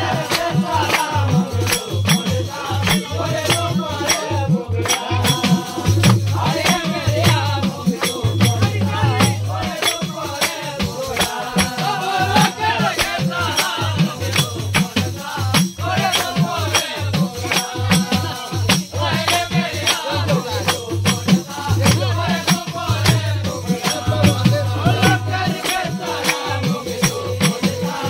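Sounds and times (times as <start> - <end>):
fast percussion beat: 0.0 - 28.0.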